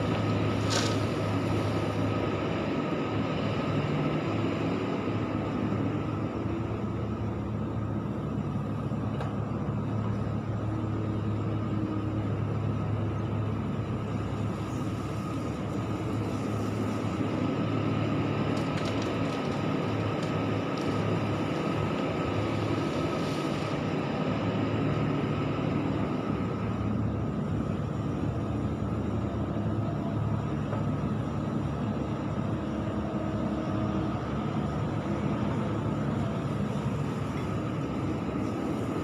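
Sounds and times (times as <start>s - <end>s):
excavator diesel engine: 0.0s - 39.0s.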